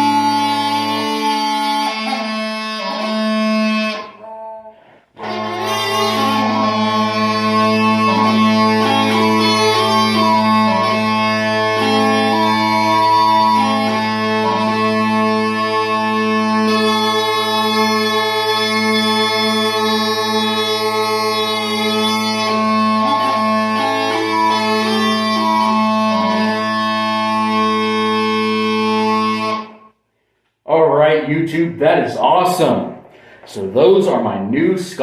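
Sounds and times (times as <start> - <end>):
bagpipe tune over drones: 0.0 - 29.9.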